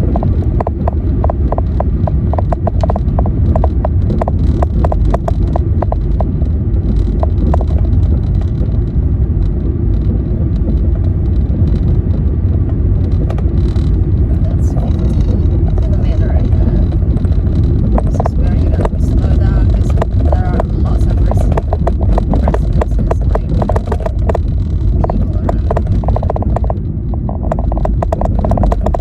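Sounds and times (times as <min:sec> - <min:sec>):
car engine and road noise: 0:00.0 - 0:29.0
rapid sharp ticks: 0:00.1 - 0:29.0.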